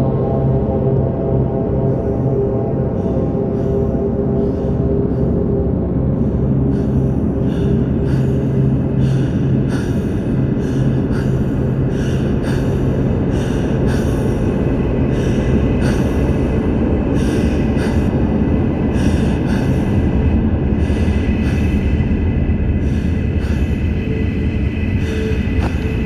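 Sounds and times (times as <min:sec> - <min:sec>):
dark ambient synth drone: 0:00.0 - 0:26.0.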